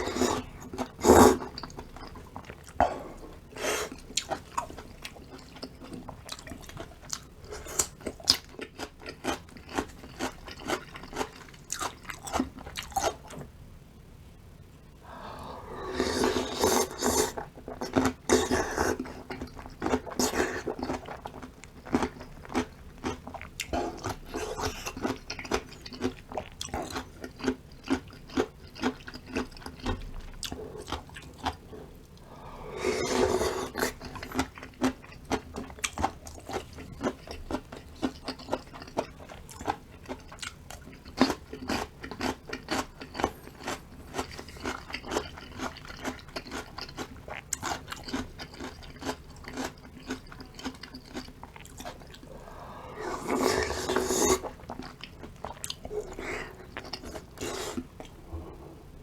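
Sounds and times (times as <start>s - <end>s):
person chewing crunchy food: 0.0s - 13.4s, 15.4s - 58.6s.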